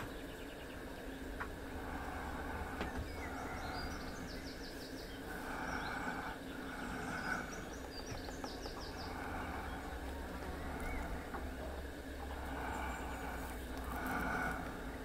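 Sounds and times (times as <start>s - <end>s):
small songbirds singing: 0.0s - 15.0s
steady low rumble: 0.0s - 15.0s.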